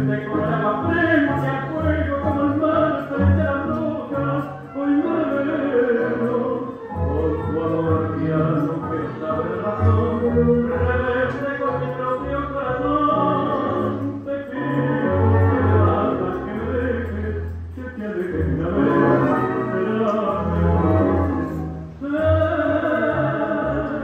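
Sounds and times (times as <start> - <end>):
tango music over loudspeakers: 0.0 - 24.0.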